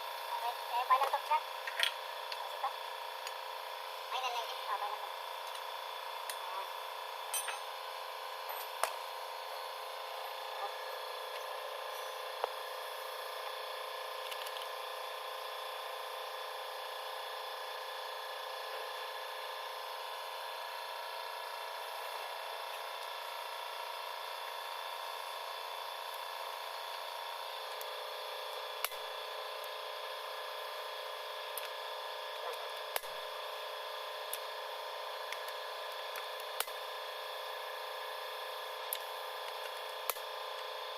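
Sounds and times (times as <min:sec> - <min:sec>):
workshop hum: 0:00.0 - 0:40.9.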